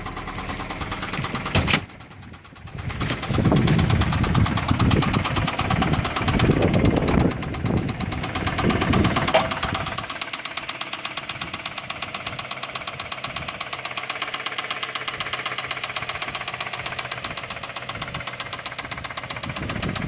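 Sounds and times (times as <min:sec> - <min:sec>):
car engine knocking: 0:00.0 - 0:20.0.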